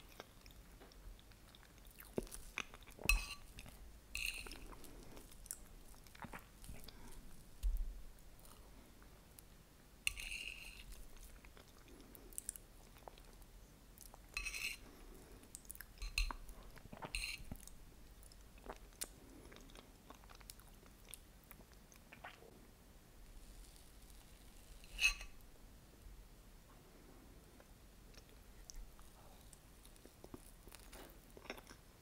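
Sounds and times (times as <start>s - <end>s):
soft chewing: 0.0s - 22.6s, 26.7s - 32.0s.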